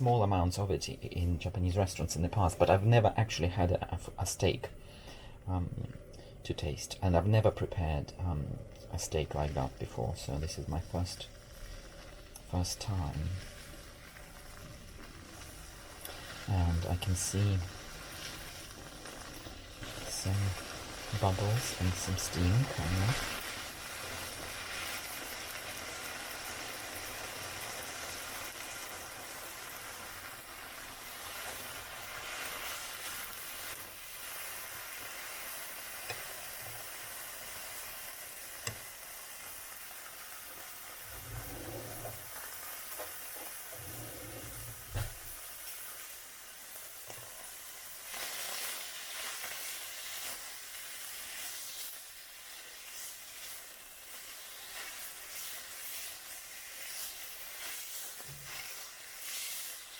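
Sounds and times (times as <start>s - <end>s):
steak sizzling in a pan: 10.9s - 59.9s.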